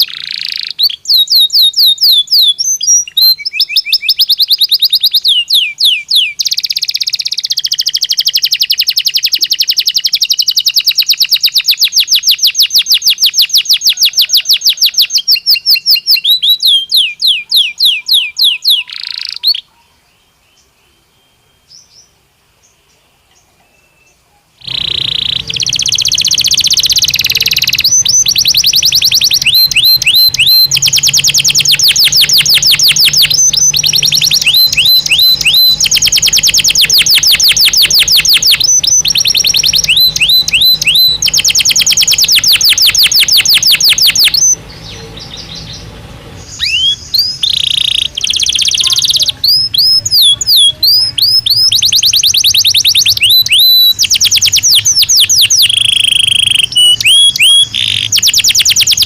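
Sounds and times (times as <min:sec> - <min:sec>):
canary singing in trills: 0:00.0 - 0:59.0.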